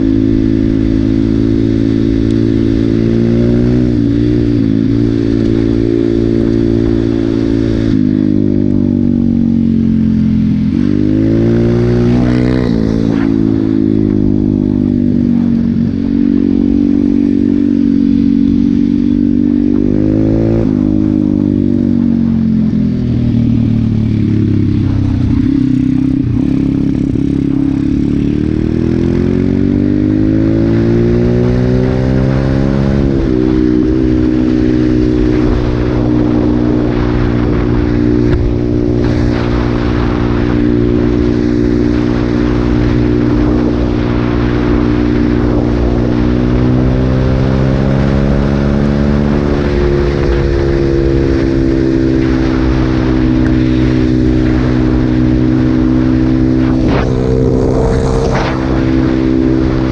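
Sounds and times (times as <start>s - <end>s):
motorcycle engine revving: 0.0s - 59.9s
wind on microphone: 10.6s - 59.9s.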